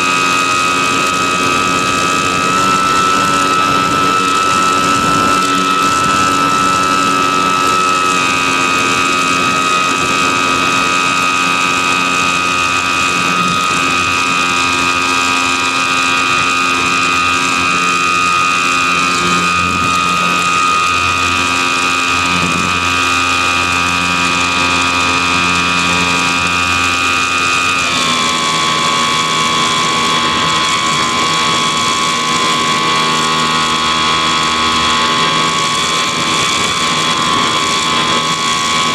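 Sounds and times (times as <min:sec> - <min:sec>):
electric motor and propeller whine: 0:00.0 - 0:38.9.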